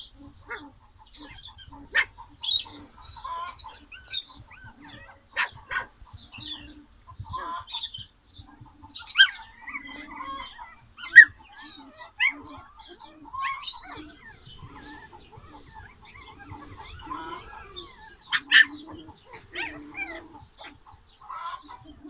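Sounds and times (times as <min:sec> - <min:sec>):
puppies squeaking and yipping: 0:00.0 - 0:22.0.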